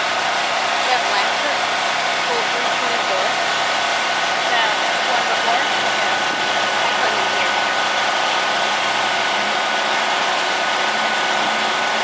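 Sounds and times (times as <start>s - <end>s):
diesel engine idling: 0.0s - 12.0s
thin steady whine: 0.0s - 12.0s.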